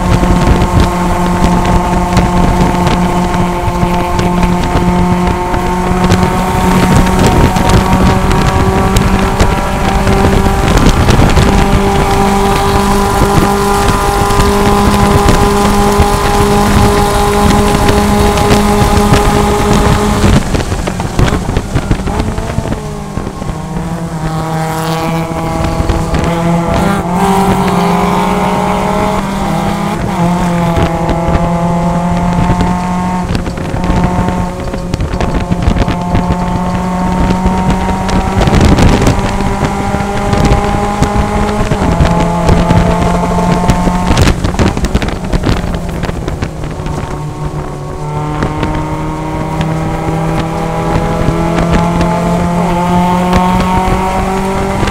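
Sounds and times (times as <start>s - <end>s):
race car engine revving: 0.0s - 54.9s
wind and road noise: 0.0s - 54.9s.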